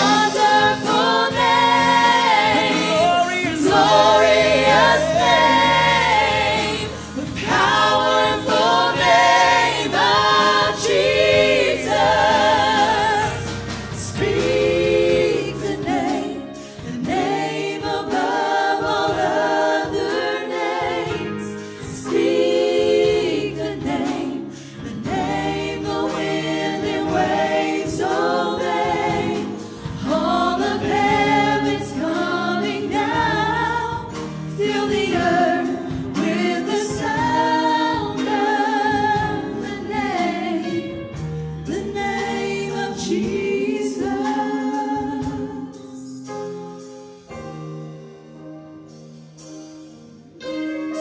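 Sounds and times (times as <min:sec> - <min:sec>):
group singing in harmony: 0:00.0 - 0:47.4
keyboard accompaniment: 0:00.0 - 0:51.0.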